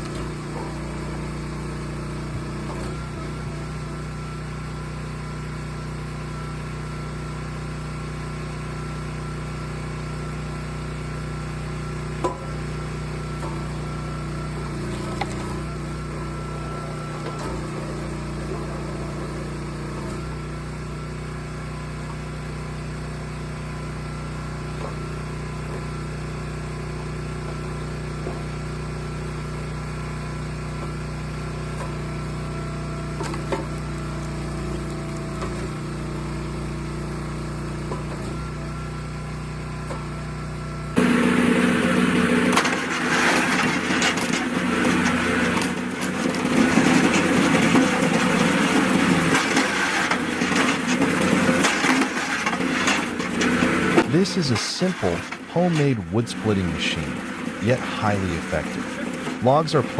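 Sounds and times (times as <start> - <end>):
log splitter motor humming: 0.0 - 59.9.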